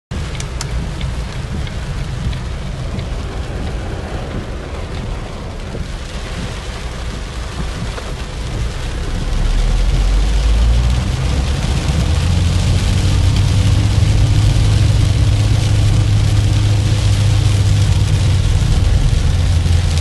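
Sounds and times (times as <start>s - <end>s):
low rumble: 0.1s - 20.0s
steady rain falling: 0.1s - 20.0s.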